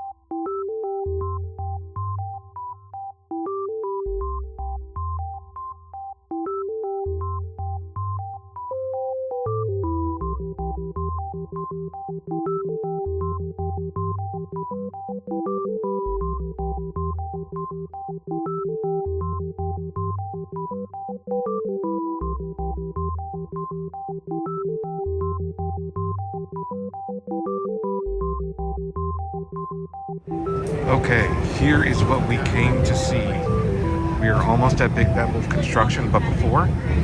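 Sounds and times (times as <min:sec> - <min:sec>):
electronic synthesizer music: 0:00.0 - 0:37.0.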